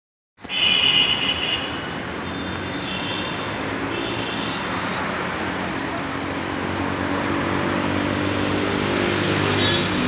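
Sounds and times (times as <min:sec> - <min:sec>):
city traffic noise: 0:00.4 - 0:10.0.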